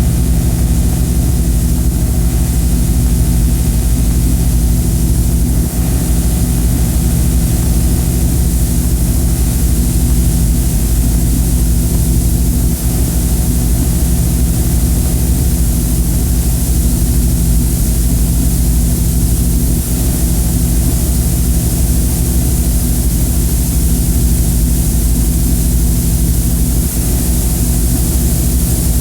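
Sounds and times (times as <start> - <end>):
low droning hum with hiss: 0.0 - 29.0.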